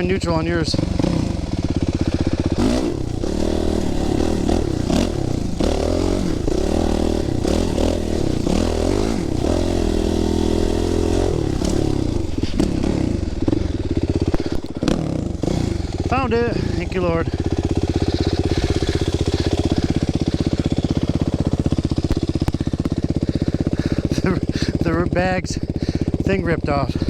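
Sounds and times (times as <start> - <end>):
dirt bike engine revving: 0.0 - 27.0
knocks and clatters over bumps: 1.6 - 27.0.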